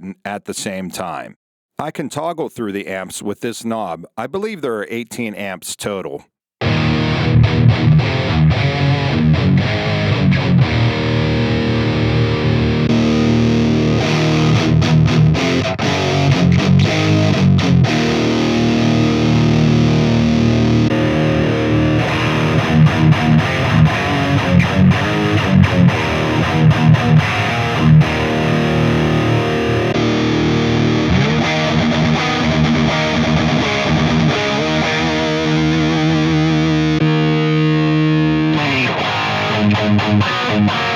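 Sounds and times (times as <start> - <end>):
distorted electric guitar: 6.6 - 40.9.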